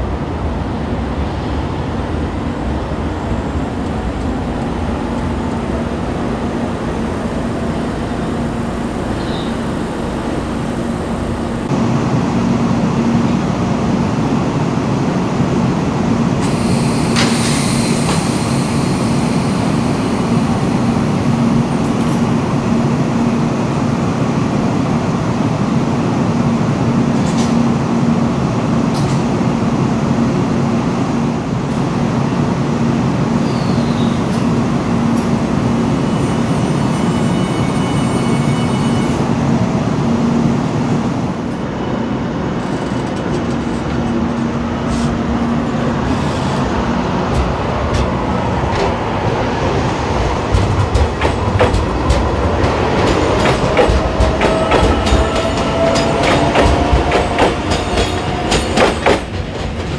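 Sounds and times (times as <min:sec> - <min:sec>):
train drone and hum: 0:00.0 - 0:59.9.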